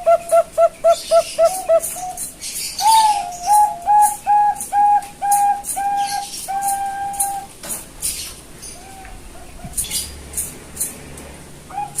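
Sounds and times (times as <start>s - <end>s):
dove cooing: 0.0s - 10.2s, 11.7s - 12.0s.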